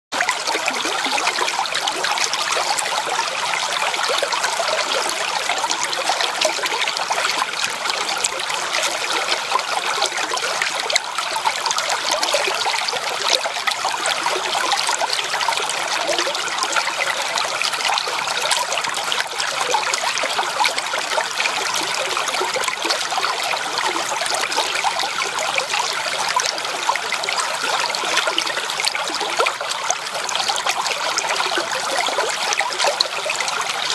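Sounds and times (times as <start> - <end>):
creek water running over rocks: 0.1 - 33.9.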